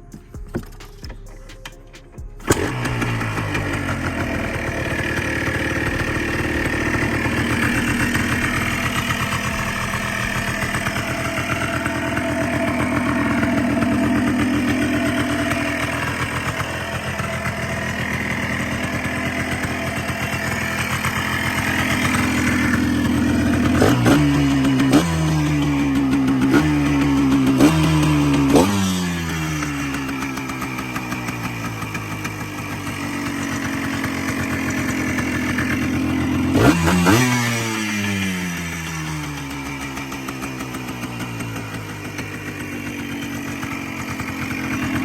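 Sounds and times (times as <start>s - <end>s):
two-stroke engine starting and idling: 0.0s - 45.0s
engine throttle blips: 0.6s - 45.0s.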